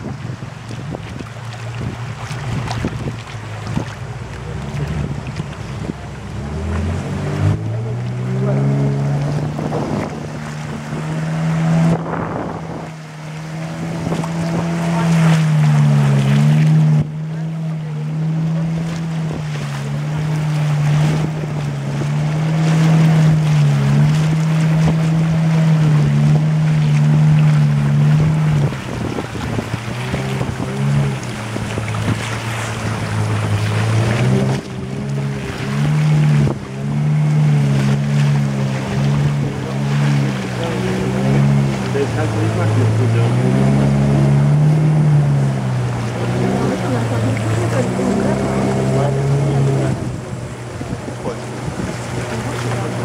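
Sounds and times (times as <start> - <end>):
wind on microphone: 0.0 - 17.4, 18.2 - 53.0
motorboat engine speeding up: 0.0 - 53.0
water rushing past hull: 0.0 - 53.0.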